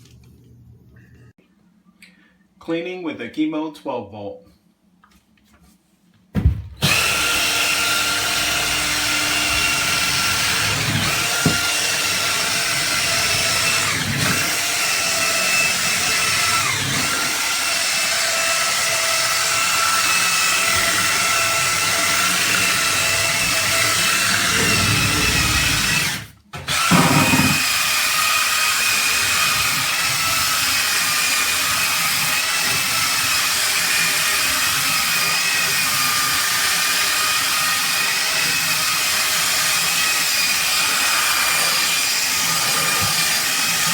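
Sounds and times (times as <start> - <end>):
power tool motor whine: 6.8 - 43.9.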